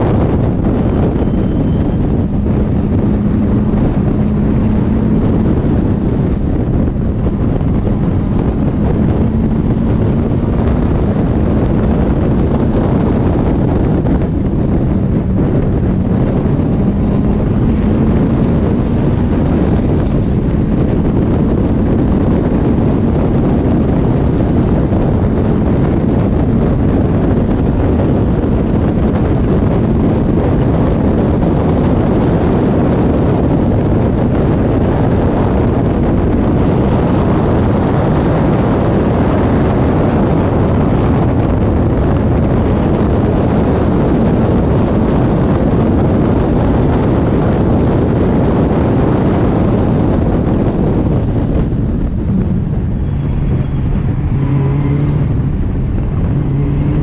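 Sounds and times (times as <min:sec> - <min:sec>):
racing car engine: 0:00.0 - 0:57.0
wind buffeting microphone: 0:00.0 - 0:57.0.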